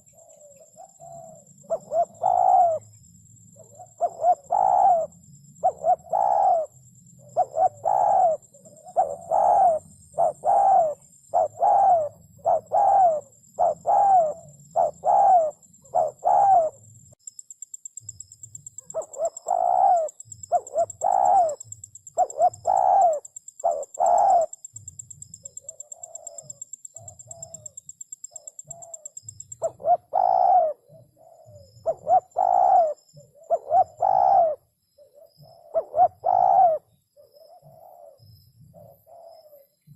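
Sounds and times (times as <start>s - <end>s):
dove cooing: 0.0s - 16.9s, 18.8s - 39.9s.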